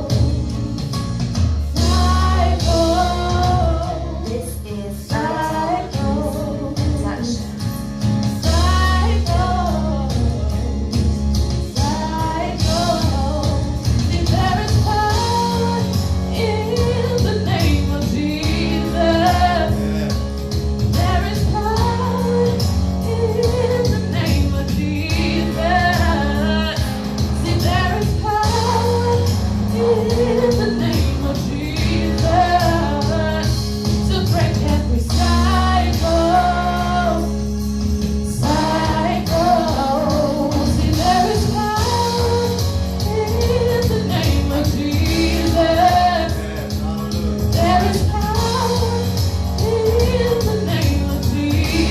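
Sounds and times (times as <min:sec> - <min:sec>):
instrumental backing with bass: 0:00.0 - 0:51.9.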